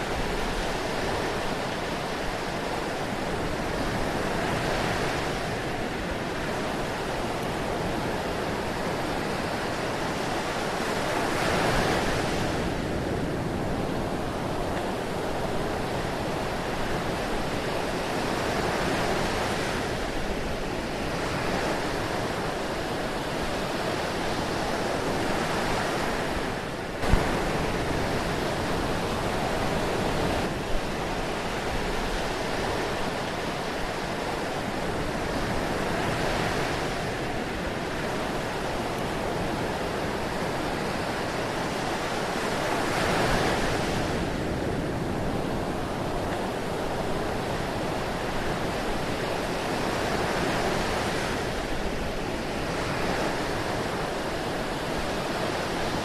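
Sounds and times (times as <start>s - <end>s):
ocean surf washing in: 0.0s - 56.0s.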